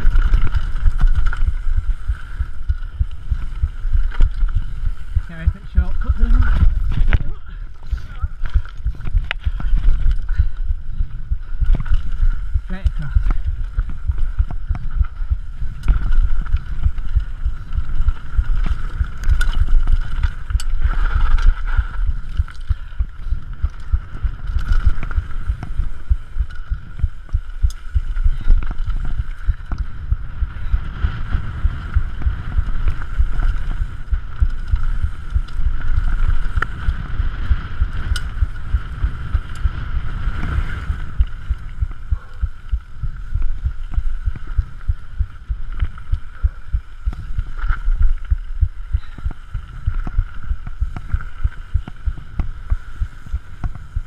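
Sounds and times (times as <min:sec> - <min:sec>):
bike wheels rattling over stones: 0:00.0 - 0:54.0
wind rumble: 0:00.0 - 0:54.0.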